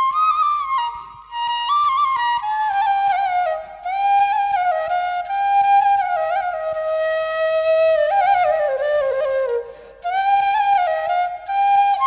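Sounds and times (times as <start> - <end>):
solo flute slow melody: 0.0 - 12.0.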